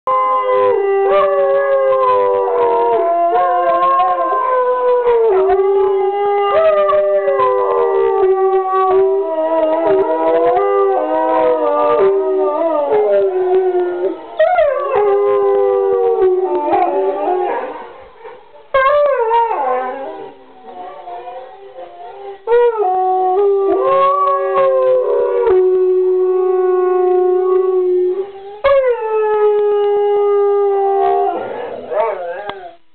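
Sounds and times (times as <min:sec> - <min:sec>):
dogs howling: 0:00.1 - 0:32.8.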